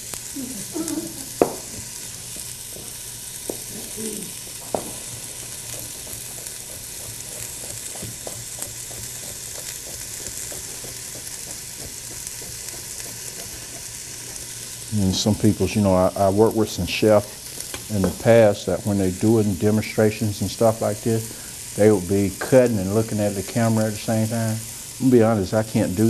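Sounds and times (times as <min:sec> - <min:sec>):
vegetables sizzling in a pot: 0:00.0 - 0:26.0.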